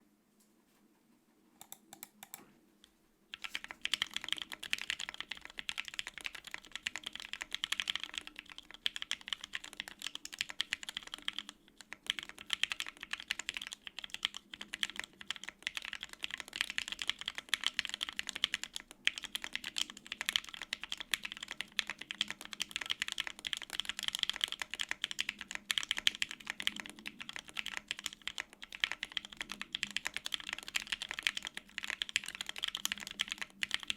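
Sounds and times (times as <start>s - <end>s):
mechanical keyboard typing: 1.6s - 2.4s, 3.3s - 33.9s.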